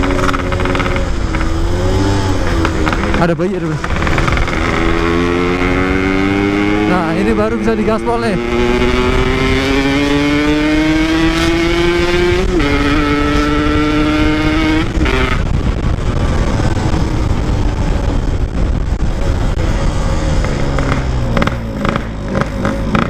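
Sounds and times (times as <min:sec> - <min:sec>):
motorcycle engine accelerating: 0:00.0 - 0:23.0
wind rushing over microphone: 0:00.0 - 0:23.0.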